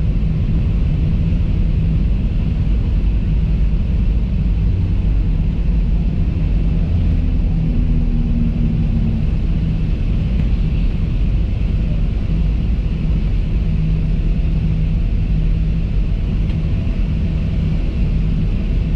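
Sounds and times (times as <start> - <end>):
airliner cabin low rumble: 0.0 - 18.9
faint engine tones: 0.0 - 18.9.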